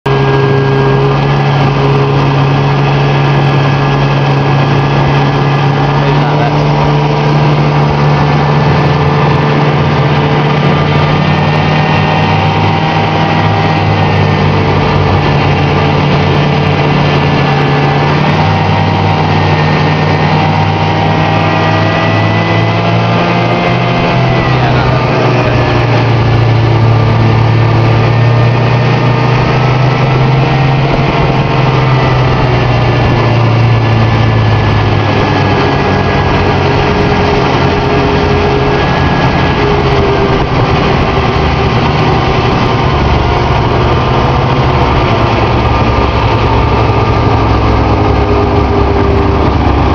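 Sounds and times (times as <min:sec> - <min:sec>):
snowmobile engine running: 0:00.0 - 0:49.9.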